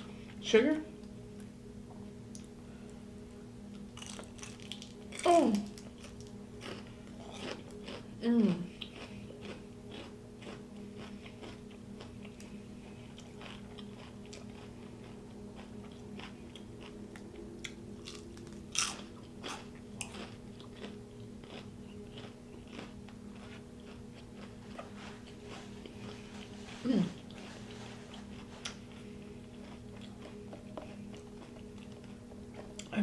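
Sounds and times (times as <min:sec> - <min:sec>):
chewing and crunching food: 0:03.7 - 0:33.0.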